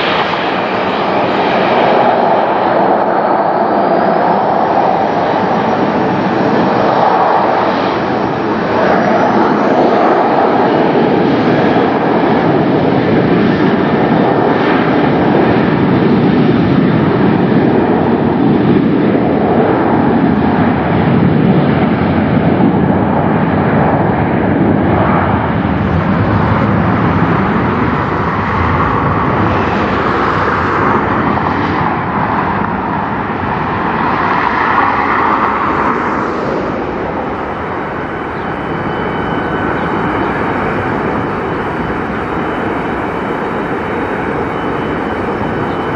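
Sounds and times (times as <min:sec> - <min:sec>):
jet airliner engines roaring: 0:00.0 - 0:45.9.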